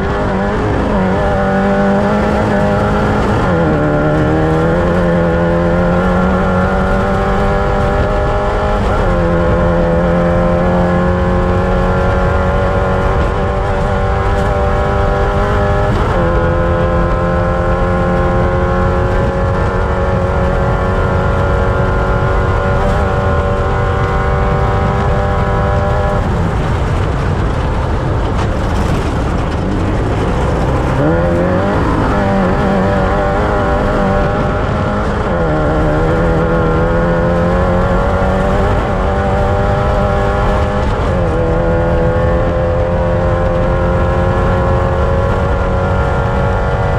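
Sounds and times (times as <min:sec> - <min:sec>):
constant rushing noise: 0:00.0 - 0:46.9
race vehicle engine at high revs: 0:00.0 - 0:46.9.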